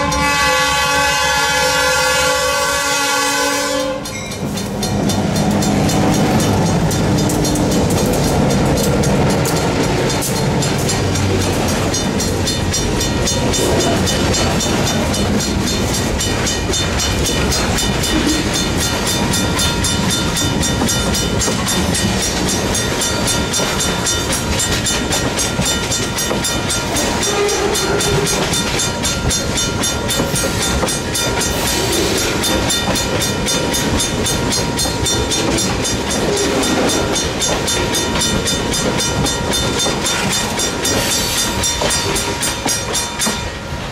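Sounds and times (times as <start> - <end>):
diesel locomotive engines: 0.0 - 43.9
train wheels clattering on rails: 0.0 - 43.9.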